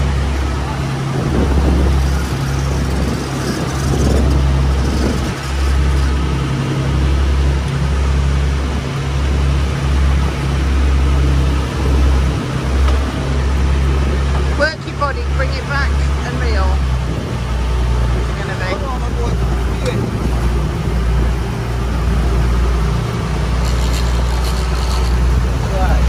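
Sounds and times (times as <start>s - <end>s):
boat engines droning: 0.0s - 26.0s
churning wake rushing: 0.0s - 26.0s
wind: 0.0s - 26.0s.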